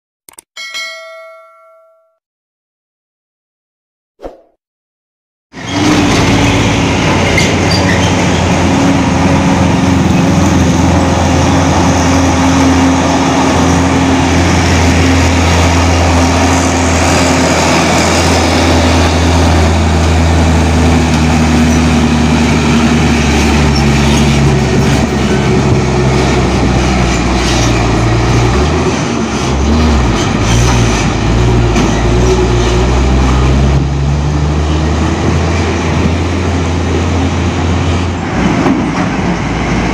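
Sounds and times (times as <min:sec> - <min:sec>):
diesel truck engine under load: 0:05.6 - 0:39.9.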